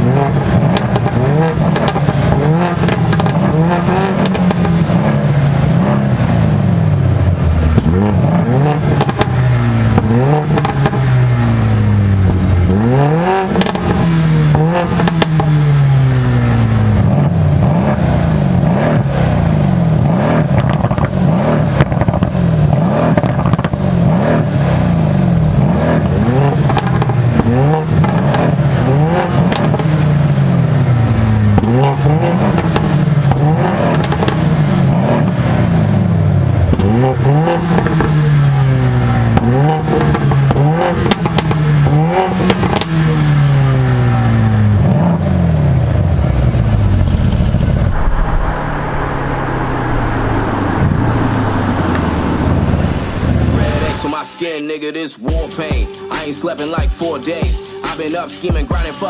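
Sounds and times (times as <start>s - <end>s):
car engine revving: 0.0s - 54.2s
exhaust cracks: 0.0s - 54.2s.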